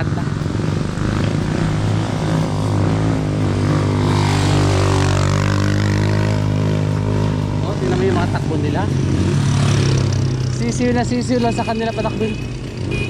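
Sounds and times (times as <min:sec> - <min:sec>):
motorcycle engine running: 0:00.0 - 0:13.0
rushing noise: 0:00.0 - 0:13.0.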